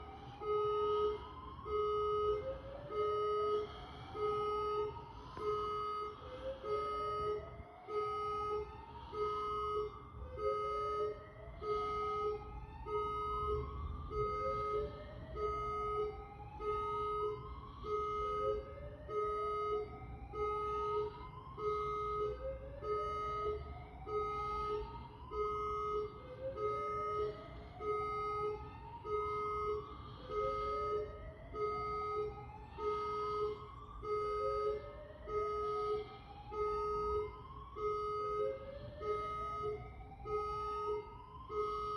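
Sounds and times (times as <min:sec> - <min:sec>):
pulsing two-tone electronic alarm: 0:00.0 - 0:41.9.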